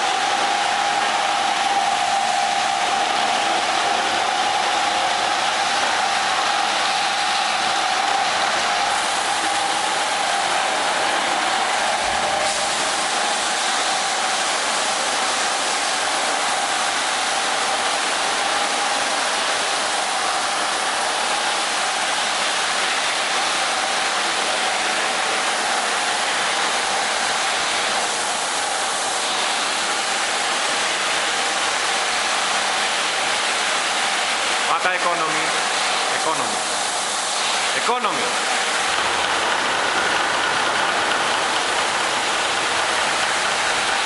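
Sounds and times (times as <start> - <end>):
carpet washing machine hiss: 0.0 - 44.0
mid-pitched machine whine: 0.0 - 44.0.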